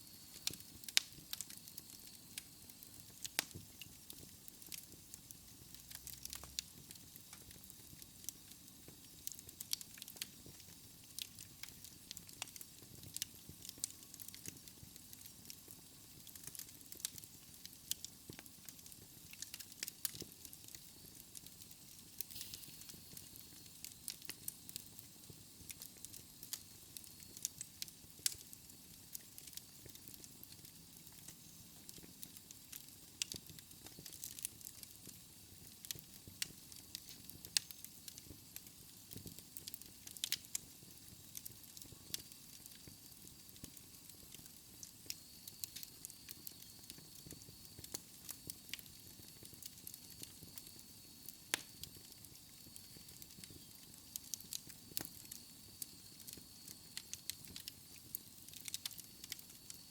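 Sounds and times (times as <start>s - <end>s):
faint steady hiss: 0.0s - 59.9s
wood fire crackling and popping: 0.0s - 59.9s.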